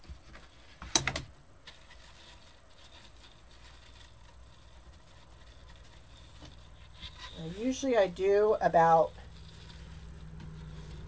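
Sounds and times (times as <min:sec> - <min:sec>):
ribbon rustling and crinkling: 0:00.0 - 0:11.0.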